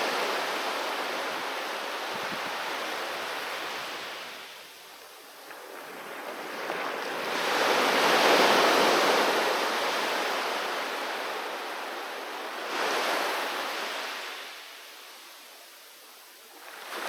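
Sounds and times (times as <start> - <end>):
sea waves breaking on beach: 0.0 - 14.7, 16.6 - 17.0.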